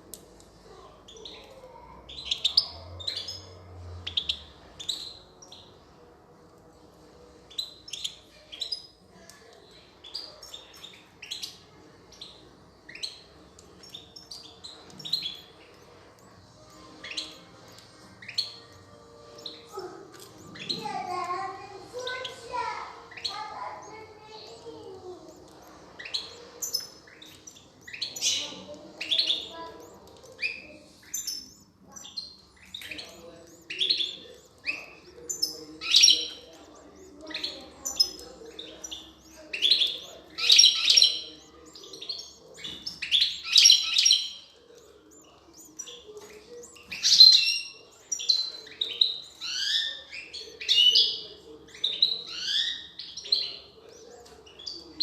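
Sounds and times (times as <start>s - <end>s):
goldfinches chirping: 1.0s - 5.8s, 7.2s - 9.0s, 9.9s - 54.9s.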